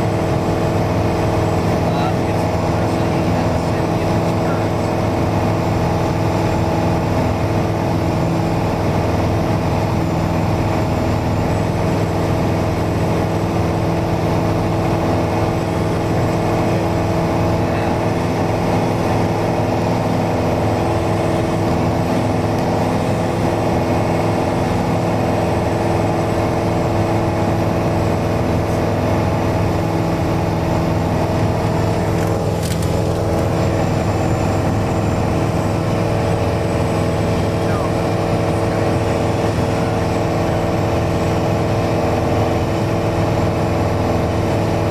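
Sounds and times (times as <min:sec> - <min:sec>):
aircraft engine and propeller droning: 0:00.0 - 0:44.9.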